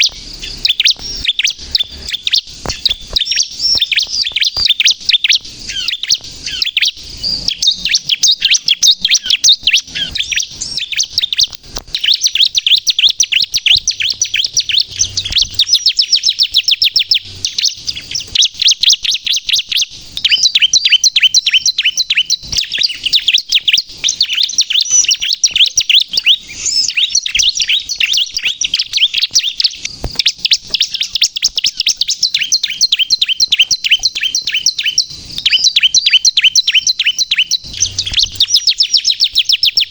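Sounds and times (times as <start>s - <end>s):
bird singing sharp chirps: 0.0s - 39.9s.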